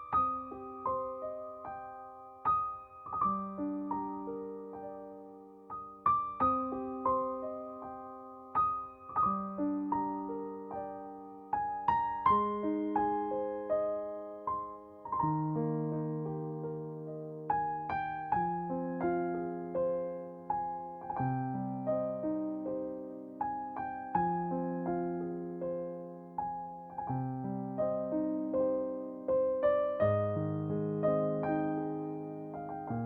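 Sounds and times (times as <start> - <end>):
soft slow piano music: 0.0 - 33.0.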